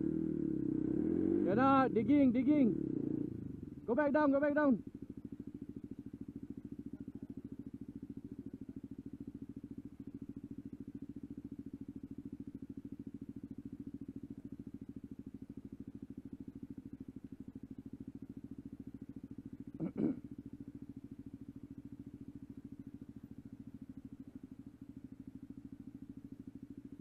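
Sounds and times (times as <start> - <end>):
dirt bike engine idling: 0.0 - 27.0.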